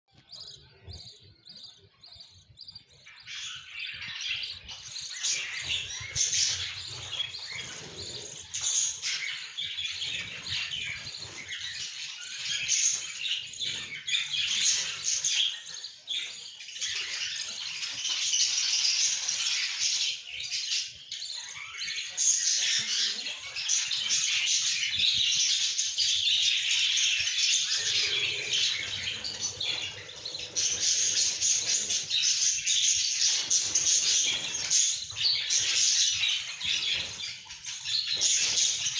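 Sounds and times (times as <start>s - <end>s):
budgerigar chicks chirping: 0.1s - 38.9s.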